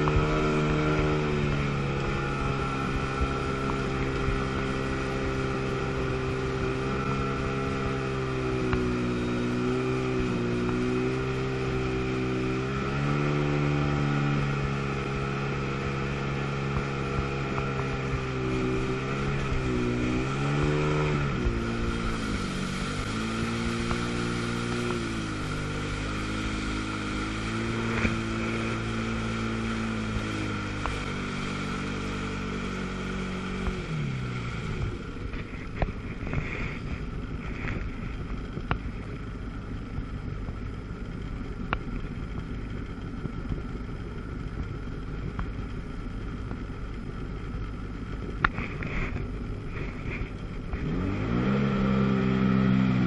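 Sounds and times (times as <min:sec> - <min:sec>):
jet ski engine running: 0:00.0 - 0:53.0
water and wind hiss: 0:00.0 - 0:53.0.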